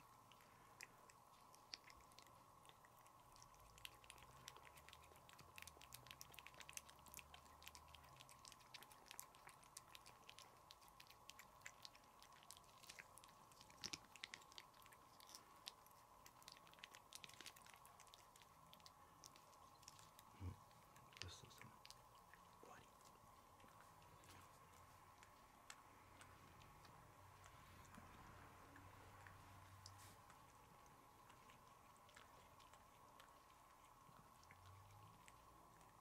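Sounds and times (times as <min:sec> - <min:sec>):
cat licking: 0:00.0 - 0:36.0
faint steady hum: 0:00.0 - 0:36.0.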